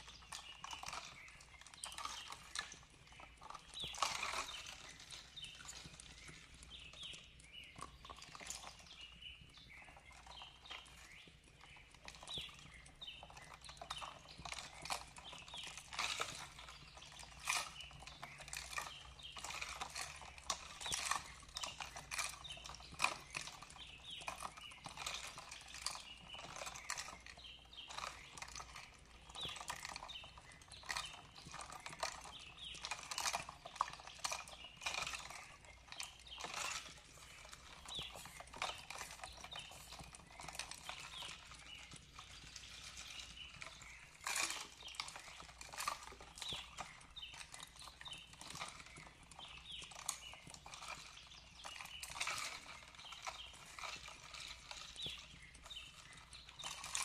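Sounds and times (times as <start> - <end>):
birds chirping softly: 0.0 - 57.0.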